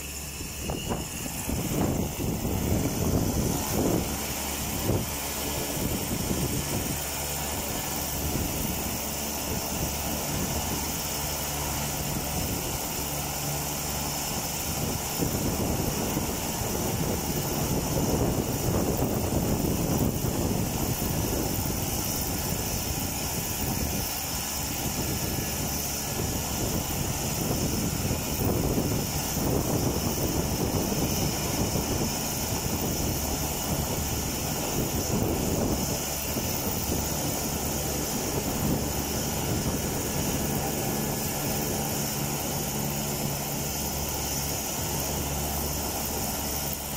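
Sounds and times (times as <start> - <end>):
turboprop engine running: 0.0 - 46.9
wind buffeting microphone: 0.0 - 46.9.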